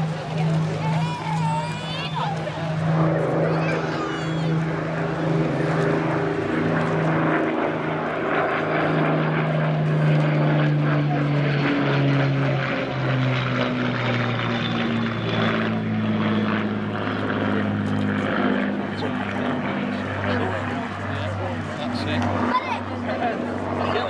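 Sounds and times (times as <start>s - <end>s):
propeller aircraft engines drone: 0.0s - 24.0s.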